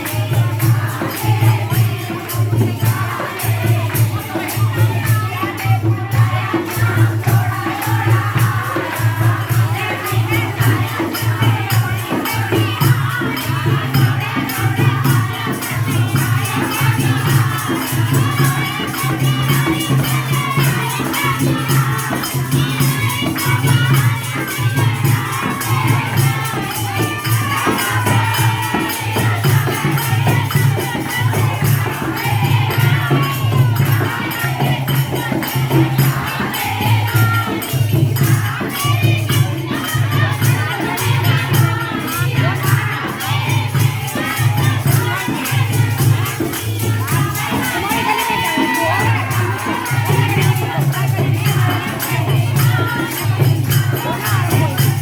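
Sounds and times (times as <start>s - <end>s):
crowd noise: 0.0s - 55.0s
fast percussion beat: 0.0s - 55.0s
voices singing devotional melody: 0.0s - 55.0s.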